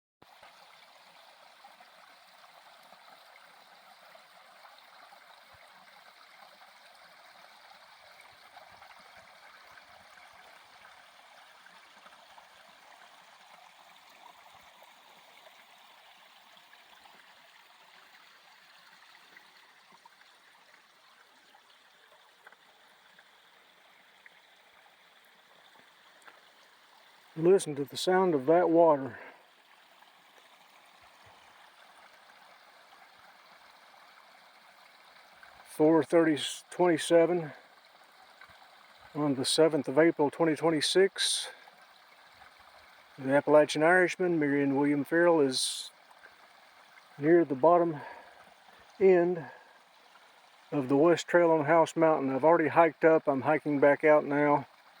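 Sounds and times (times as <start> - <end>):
stream trickling over rocks: 0.2 - 55.0.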